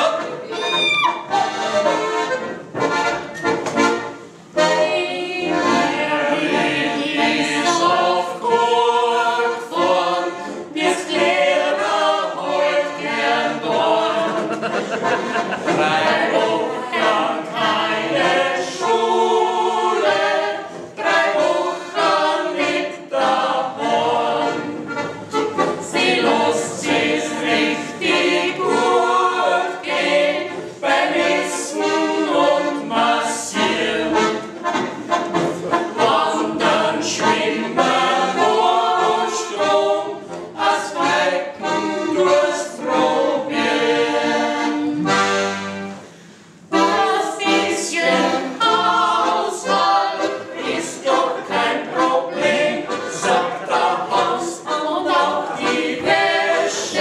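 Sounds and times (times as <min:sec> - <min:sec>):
accordion: 0:00.0 - 0:57.0
voices singing together: 0:00.0 - 0:57.0.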